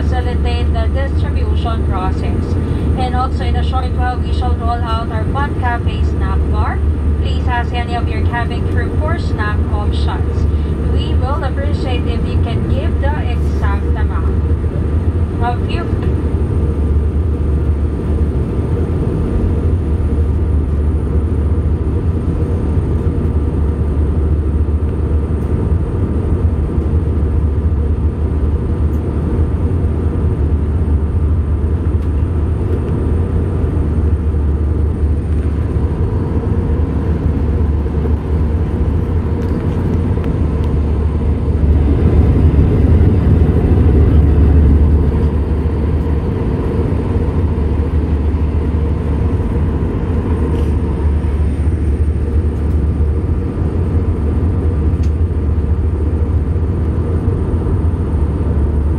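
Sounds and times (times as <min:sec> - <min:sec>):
faint steady whine: 0:00.0 - 0:58.9
jet engines and airflow rumble: 0:00.0 - 0:58.9.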